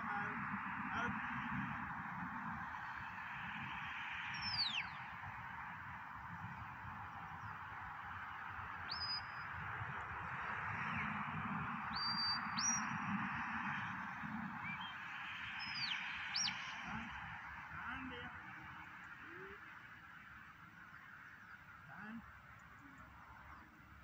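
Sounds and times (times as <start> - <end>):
wind noise on microphone: 0.0 - 19.6.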